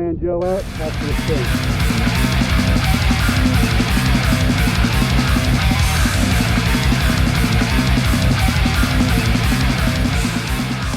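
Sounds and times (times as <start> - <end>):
heavy rock music: 0.5 - 10.9.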